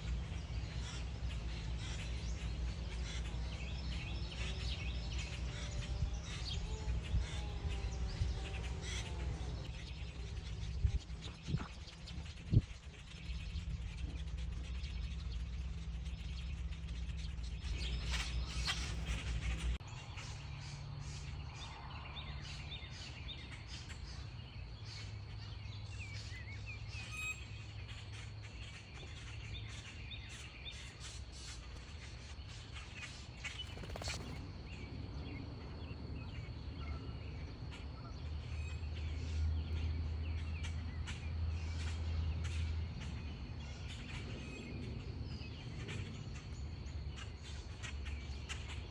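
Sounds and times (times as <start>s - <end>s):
birds chirping: 0.0s - 48.9s
low steady hum: 0.0s - 48.9s.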